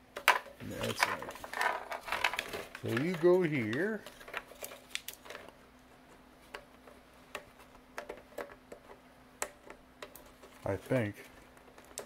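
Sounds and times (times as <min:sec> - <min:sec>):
cable clicks and rustles: 0:00.2 - 0:12.0.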